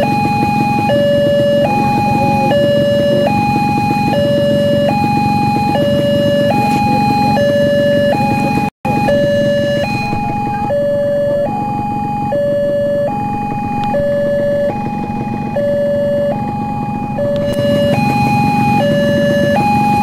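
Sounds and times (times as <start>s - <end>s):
level-crossing alarm alternating tones: 0.0s - 20.0s.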